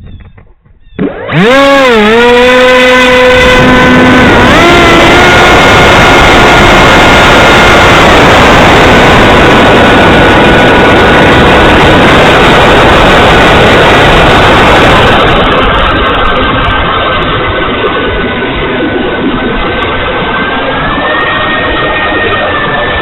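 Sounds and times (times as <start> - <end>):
heavy wind rush: 0.0 - 23.0
model plane motor whine: 1.0 - 23.0.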